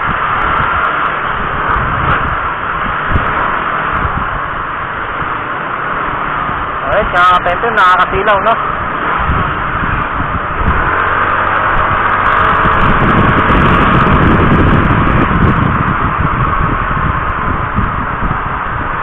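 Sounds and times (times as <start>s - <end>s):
motorcycle engine and road rumble: 0.0s - 19.0s
wind rushing over microphone: 0.0s - 19.0s.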